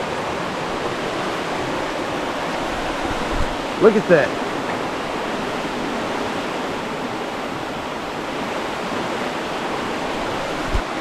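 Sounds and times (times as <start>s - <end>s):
floodwater rushing in a creek: 0.0s - 11.0s.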